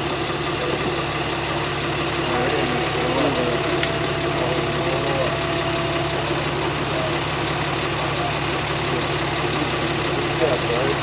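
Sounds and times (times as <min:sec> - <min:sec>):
faint voices: 0:00.0 - 0:11.0
vehicle engine idling: 0:00.0 - 0:11.0.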